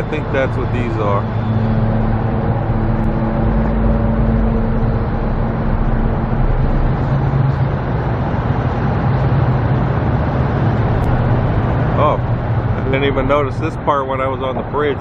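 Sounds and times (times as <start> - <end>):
vehicle engines roaring: 0.0 - 15.0.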